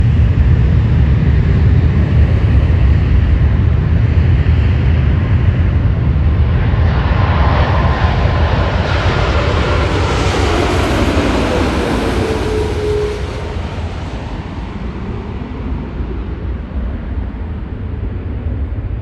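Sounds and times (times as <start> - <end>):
jet engine whine and hiss: 0.0 - 19.0
jet engines rumbling: 0.0 - 19.0.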